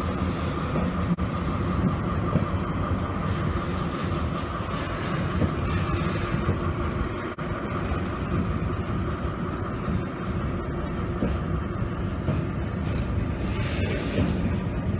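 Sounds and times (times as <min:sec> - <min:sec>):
steel train wheels on rails: 0:00.0 - 0:14.9.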